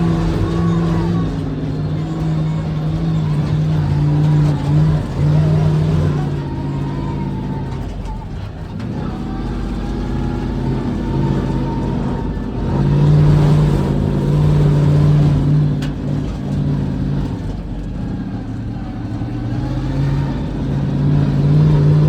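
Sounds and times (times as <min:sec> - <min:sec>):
monster truck engine under load: 0:00.0 - 0:22.0.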